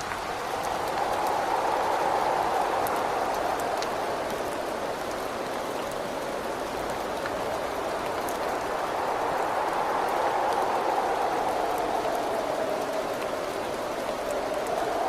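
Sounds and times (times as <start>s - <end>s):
faint rain drop ticks: 0.0s - 15.0s
steady rain with wind: 0.0s - 15.0s.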